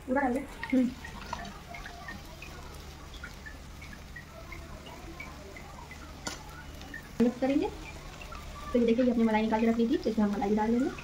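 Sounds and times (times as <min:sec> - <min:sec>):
food popping in a pan: 0:00.0 - 0:11.0.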